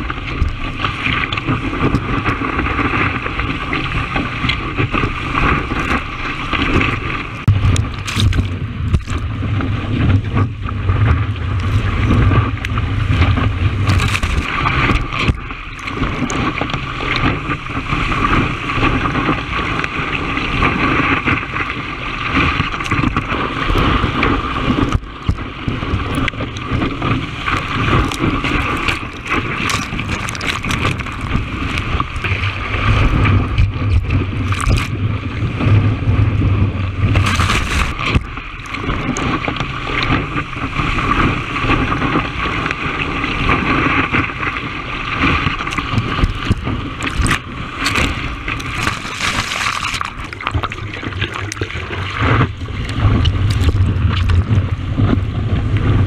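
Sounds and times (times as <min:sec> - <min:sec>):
surf water rushing and splashing: 0:00.0 - 0:56.0
wind buffeting microphone: 0:00.0 - 0:56.0.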